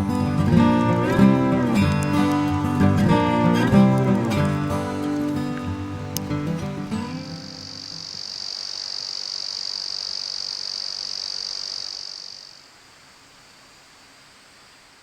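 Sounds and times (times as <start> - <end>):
insect buzzing: 0.0 - 15.0.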